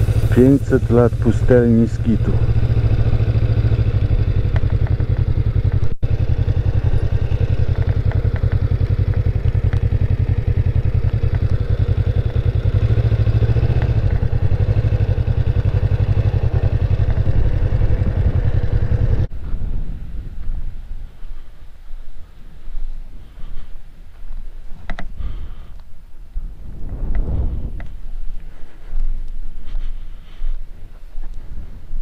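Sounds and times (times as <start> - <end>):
motorcycle engine at low speed: 0.0 - 32.0.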